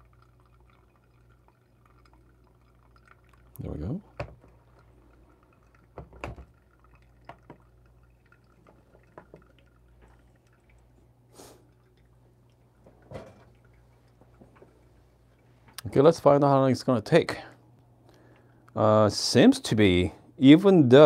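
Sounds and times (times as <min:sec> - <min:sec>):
coffee dripping: 0:00.0 - 0:21.0.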